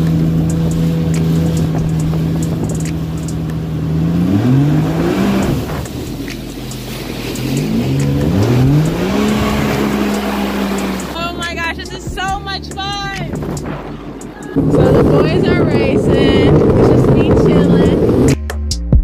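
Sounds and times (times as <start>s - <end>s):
rushing water: 0.0s - 18.4s
watercraft engine running: 0.0s - 18.4s.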